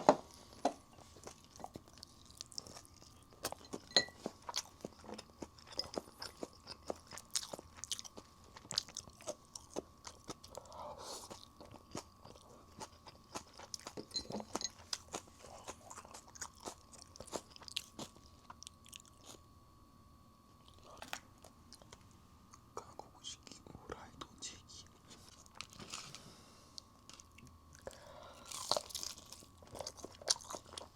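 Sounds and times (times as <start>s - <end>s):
crunching and chewing fried chicken: 0.3s - 19.5s, 20.6s - 30.9s.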